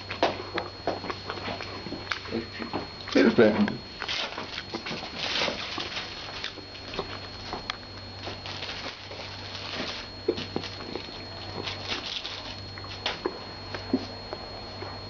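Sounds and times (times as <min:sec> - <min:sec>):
rustling and handling noises: 0:00.0 - 0:15.0.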